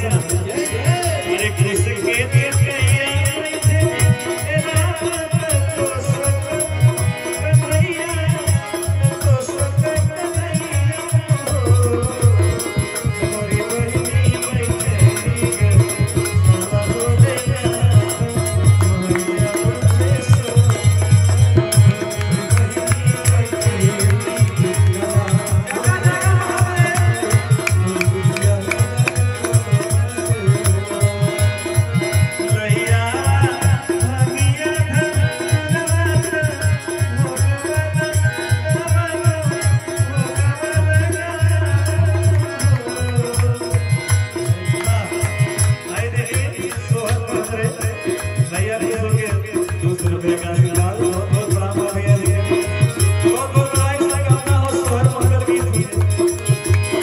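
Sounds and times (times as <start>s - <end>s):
hand drum fast rhythm: 0.0s - 57.0s
harmonium: 0.0s - 57.0s
man singing: 0.0s - 57.0s.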